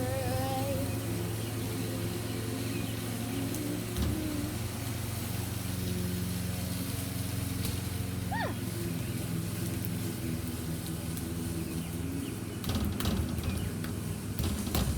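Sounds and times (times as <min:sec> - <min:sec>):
motor humming: 0:00.0 - 0:14.9.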